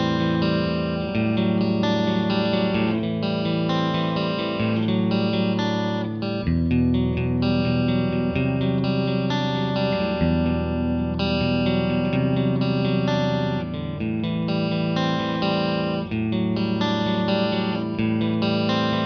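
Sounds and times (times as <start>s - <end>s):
clean electric guitar chords: 0.0s - 19.0s.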